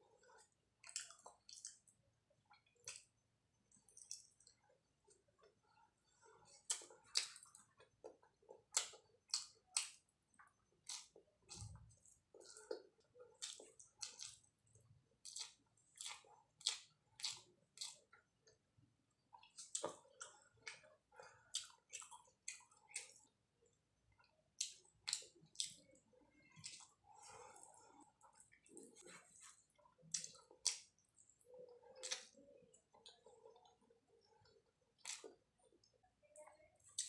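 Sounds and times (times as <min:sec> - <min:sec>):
chewing and lip smacking: 0:00.2 - 0:03.1, 0:03.7 - 0:18.6, 0:19.2 - 0:23.3, 0:24.1 - 0:37.0.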